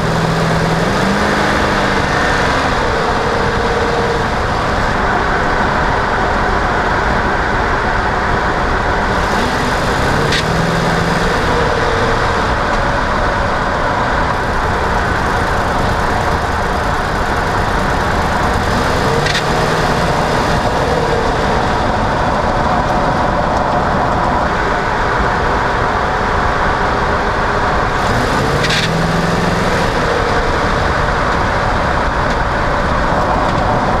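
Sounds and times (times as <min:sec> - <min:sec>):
pickup truck engine and road noise: 0:00.0 - 0:34.0.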